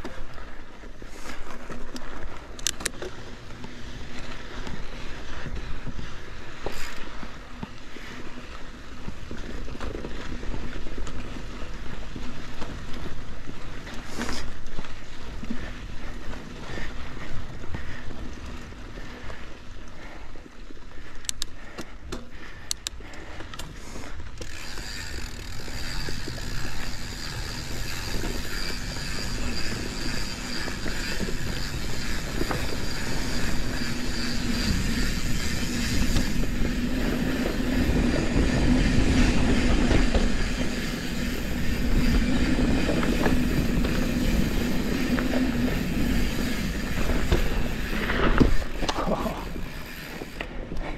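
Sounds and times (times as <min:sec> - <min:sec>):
tyres rolling on dirt: 0:00.0 - 0:20.9, 0:23.2 - 0:50.9
bike rattling: 0:00.0 - 0:50.9.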